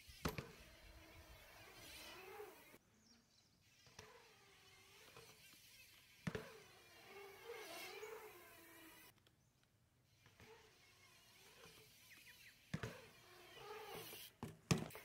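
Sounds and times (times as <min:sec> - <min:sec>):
bike hitting bowl lip: 0:00.0 - 0:02.8, 0:03.9 - 0:09.1, 0:10.2 - 0:15.0
bike tyres whirring on concrete: 0:00.0 - 0:15.0.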